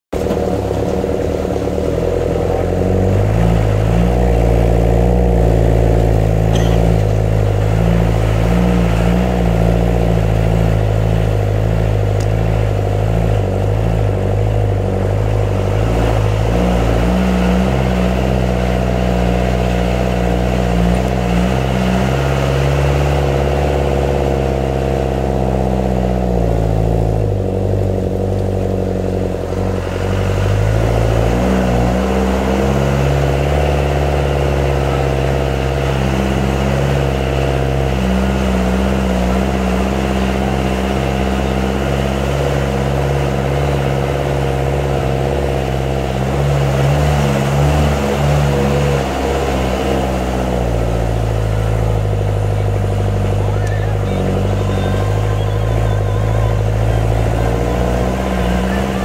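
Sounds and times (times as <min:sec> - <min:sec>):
engine running under load: 0:00.1 - 0:59.0.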